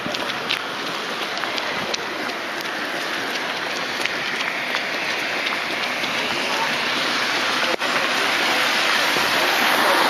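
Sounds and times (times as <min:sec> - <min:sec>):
rain on wet pavement: 0:00.0 - 0:10.0.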